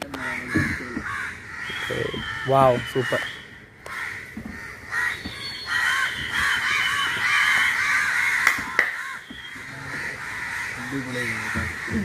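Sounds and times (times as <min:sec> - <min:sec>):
crows cawing: 0:00.0 - 0:12.0.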